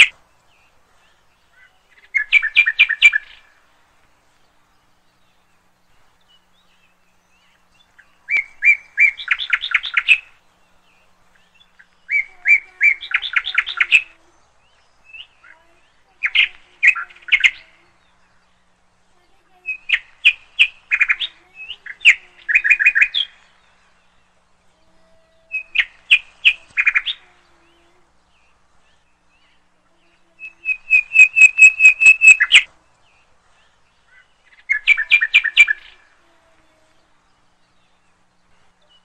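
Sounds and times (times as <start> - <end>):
bird chirping: 0.0 - 39.0.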